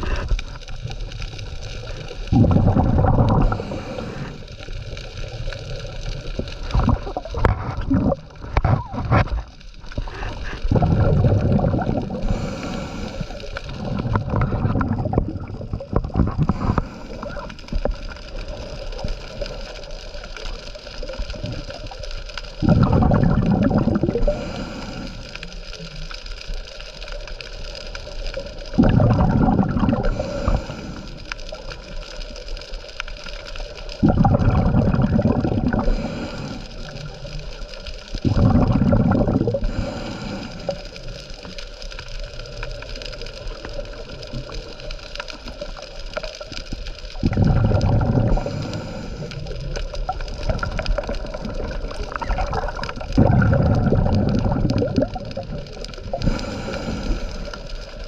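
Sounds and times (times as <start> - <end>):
exhaled air bubbling underwater: 0.0 - 58.0.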